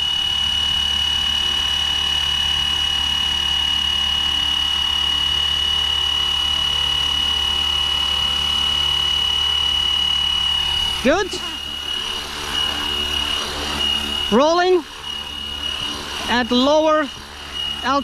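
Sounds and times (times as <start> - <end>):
rc helicopter motor whine: 0.0 - 18.0.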